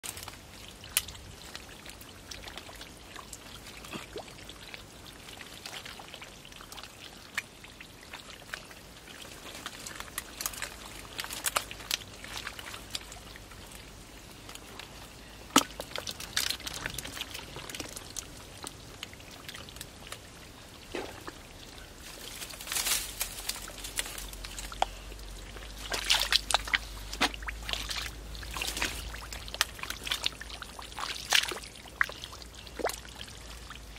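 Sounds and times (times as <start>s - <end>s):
muddy water splashing: 0.0s - 33.9s.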